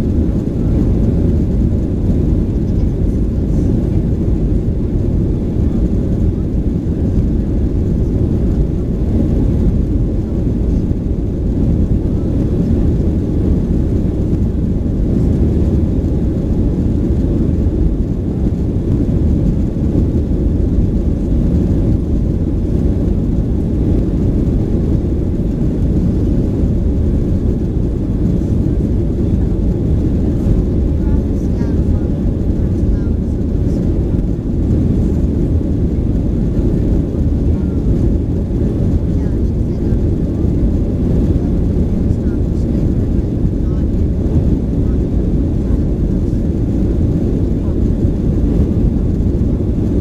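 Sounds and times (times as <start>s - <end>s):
jet engine cabin rumble: 0.0s - 50.0s.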